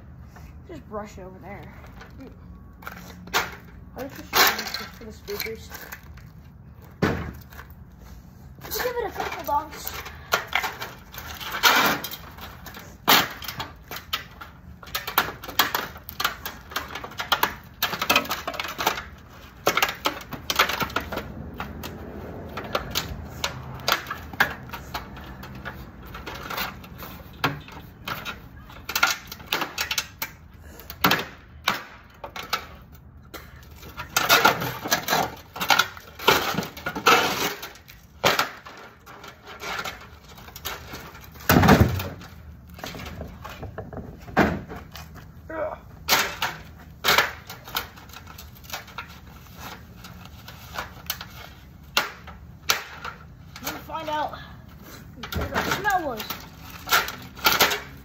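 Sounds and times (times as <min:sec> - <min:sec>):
broken tv pieces clattering: 0:02.8 - 0:06.4, 0:08.6 - 0:32.9, 0:33.7 - 0:45.1, 0:46.1 - 0:53.9, 0:55.2 - 0:58.0.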